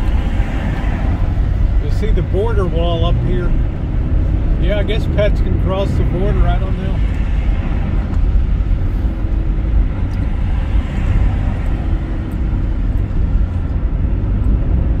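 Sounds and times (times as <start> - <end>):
car interior road and engine noise: 0.0 - 15.0.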